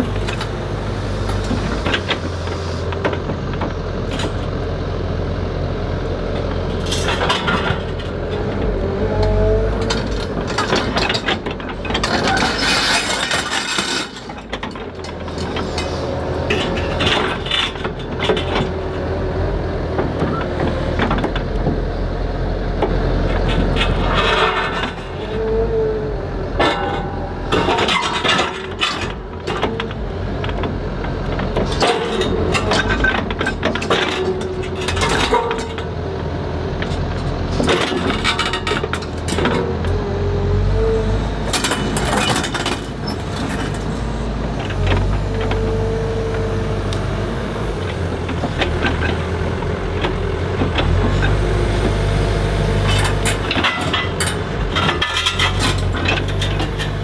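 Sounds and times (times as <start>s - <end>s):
excavator engine and hydraulics hum: 0.0s - 57.0s.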